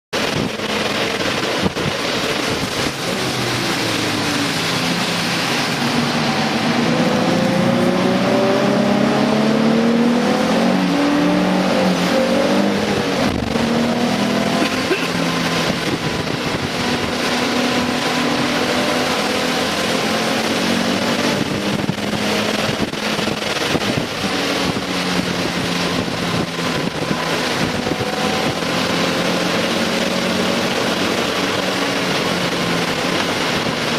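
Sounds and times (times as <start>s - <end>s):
race car engines passing: 0.2s - 33.9s.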